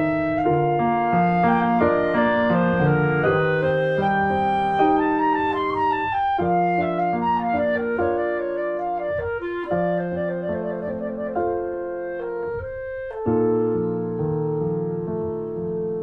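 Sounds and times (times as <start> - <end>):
piano chords: 0.0 - 16.0
woodwind melody: 0.0 - 16.0.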